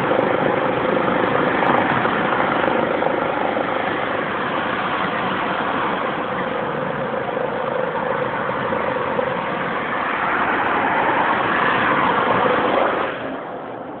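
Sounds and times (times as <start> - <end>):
loud mechanical droning: 0.0 - 14.0.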